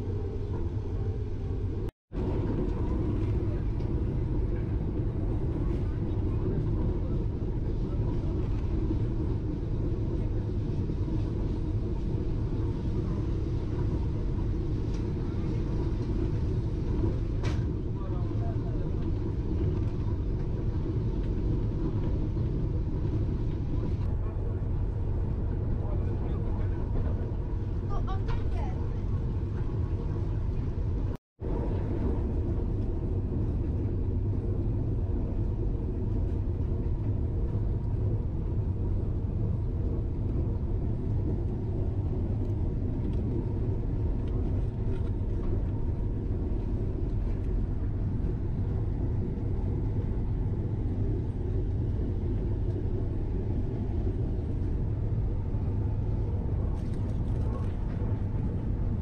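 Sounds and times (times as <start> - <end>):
train rumble from inside coach: 0.0 - 59.0.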